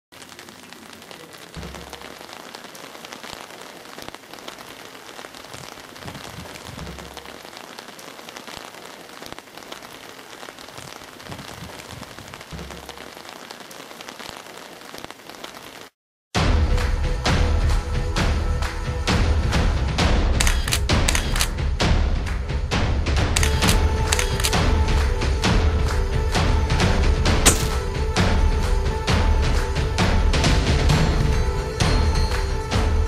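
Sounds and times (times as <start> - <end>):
rain falling on wet street: 0.1 - 16.0, 20.4 - 21.6, 23.4 - 33.0.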